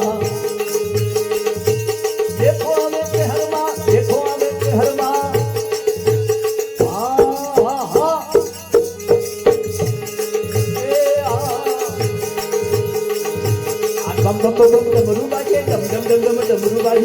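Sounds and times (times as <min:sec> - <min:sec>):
steady drum beat: 0:01.2 - 0:17.0.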